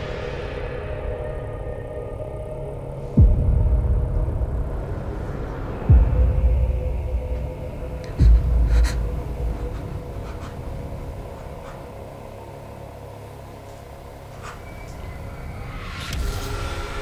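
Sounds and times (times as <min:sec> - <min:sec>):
low steady drone: 0:00.0 - 0:17.0.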